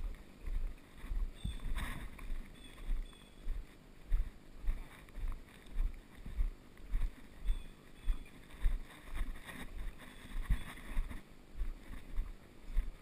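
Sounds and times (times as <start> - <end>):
footsteps on dirt path: 0.0 - 13.0.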